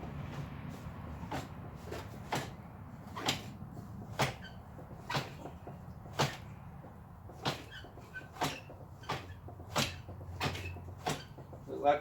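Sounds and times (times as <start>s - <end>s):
motorcycle drivetrain clunking: 0.0s - 12.0s.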